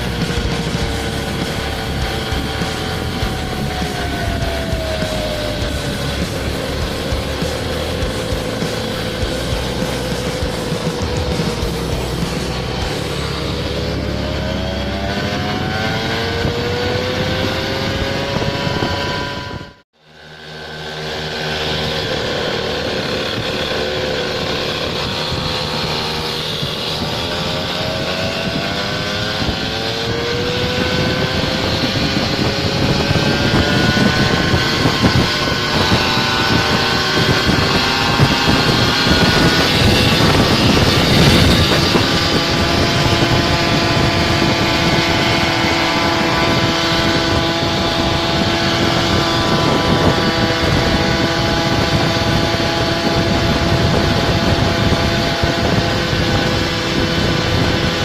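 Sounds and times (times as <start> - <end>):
rushing noise: 0.0 - 58.0
scooter engine running: 0.0 - 58.0.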